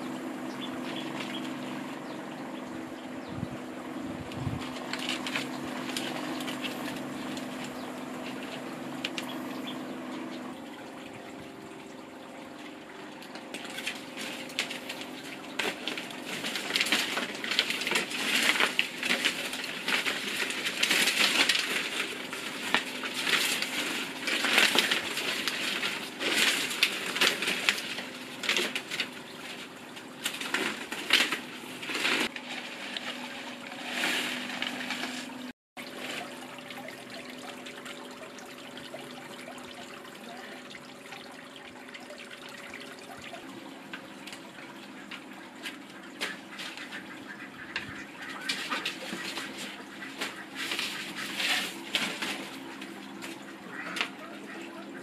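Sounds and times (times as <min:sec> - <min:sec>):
faint hum: 0:00.0 - 0:55.0
paper rustling and crinkling: 0:04.6 - 0:09.3, 0:13.4 - 0:40.7, 0:42.1 - 0:54.4.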